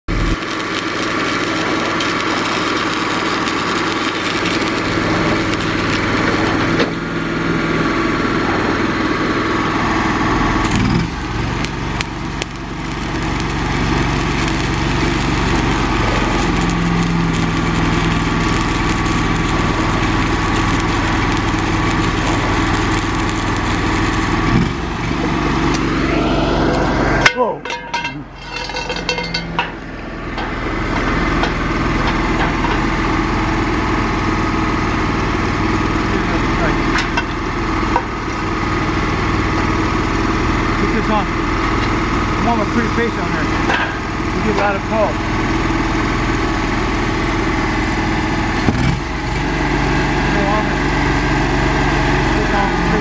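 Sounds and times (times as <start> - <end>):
engine running: 0.0 - 53.0
arc welding crackle and hiss: 0.1 - 26.6, 30.5 - 53.0.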